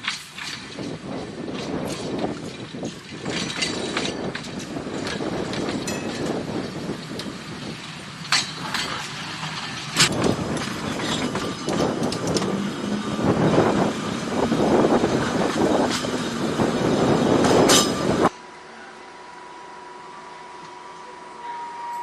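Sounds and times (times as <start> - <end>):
sharp clicks of tram wheels: 0.0 - 18.3
tram wheels rumbling on rails: 0.0 - 18.4.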